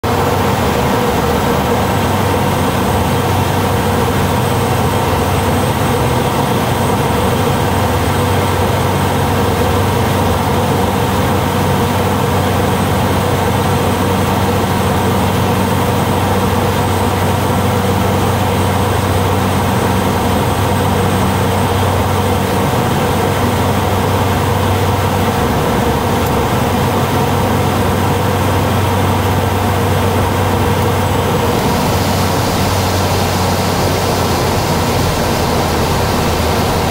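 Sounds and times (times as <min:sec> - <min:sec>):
turboprop engine drone: 0:00.0 - 0:36.9.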